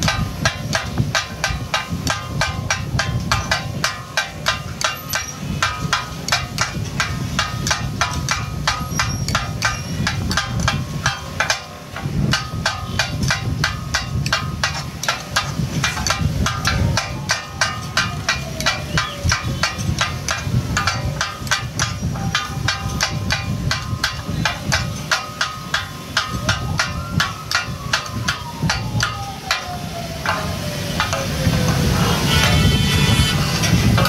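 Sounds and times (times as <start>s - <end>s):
steel blades striking griddle: 0.0s - 34.0s.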